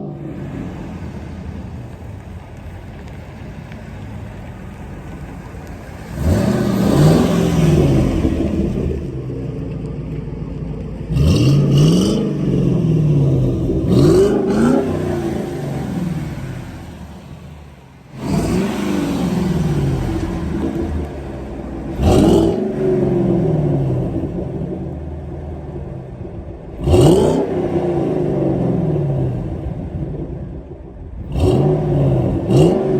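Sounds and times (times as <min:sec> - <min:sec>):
car engine revving: 0:00.0 - 0:32.9.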